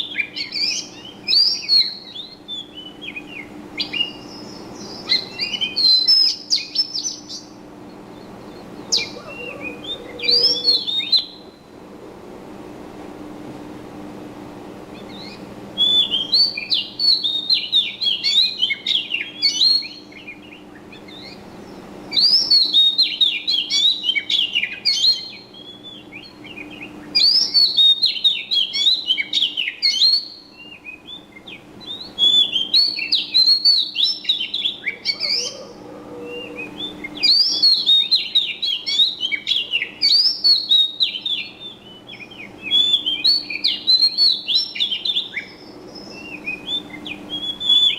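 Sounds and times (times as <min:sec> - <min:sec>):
songbird twittering chirps: 0:00.0 - 0:11.8, 0:14.9 - 0:47.9
faint low hum: 0:00.0 - 0:22.9, 0:30.4 - 0:47.9.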